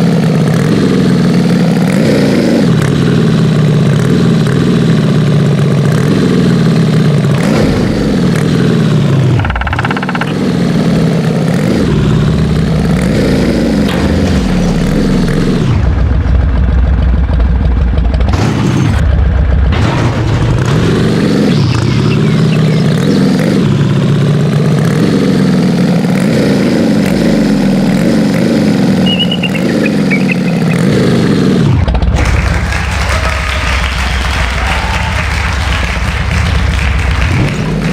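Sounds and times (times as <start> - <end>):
truck engine revving: 0.0 - 37.9.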